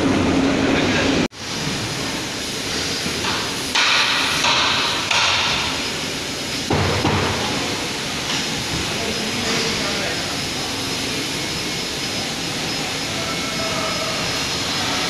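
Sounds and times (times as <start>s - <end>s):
steady mechanical din: 0.0s - 15.0s.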